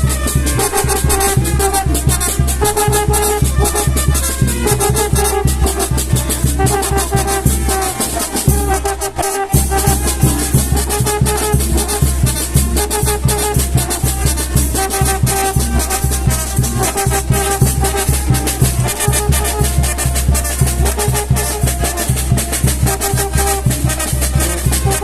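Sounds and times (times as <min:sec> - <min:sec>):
brass melody: 0:00.0 - 0:25.0
tuba and drums oom-pah beat: 0:00.0 - 0:25.0.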